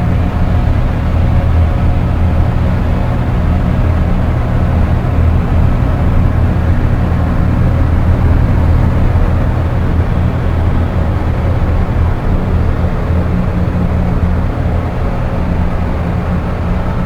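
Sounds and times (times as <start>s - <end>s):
deep synthesizer drone: 0.0s - 17.0s.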